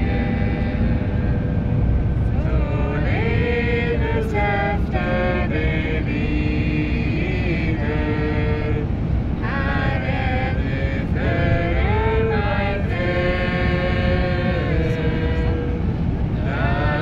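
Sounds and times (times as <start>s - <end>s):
car engine rumble: 0.0s - 17.0s
person singing long gliding notes: 0.0s - 17.0s
tyres on the road: 0.0s - 17.0s.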